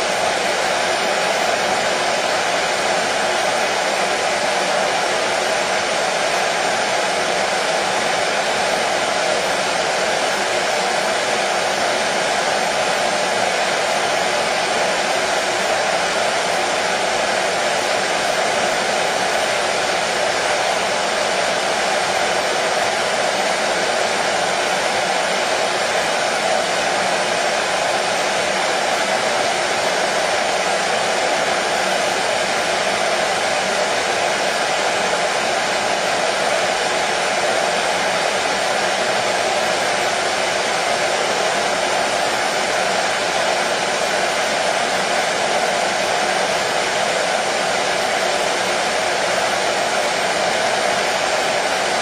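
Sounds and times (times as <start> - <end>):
hair dryer running: 0.0 - 52.0.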